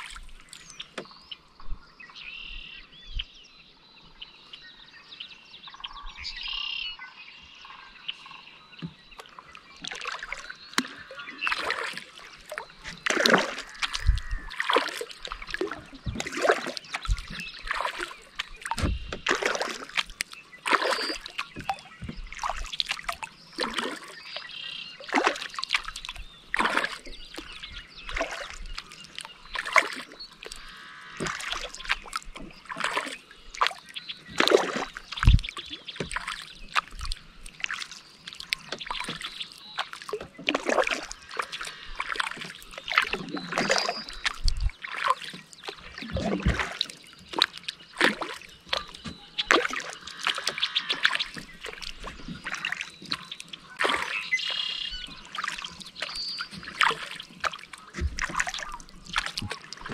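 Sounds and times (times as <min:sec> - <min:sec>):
water dripping off paddle: 0:00.0 - 0:01.4, 0:08.8 - 0:59.9
kayak paddle strokes splashing: 0:00.0 - 0:01.6, 0:08.2 - 0:59.9.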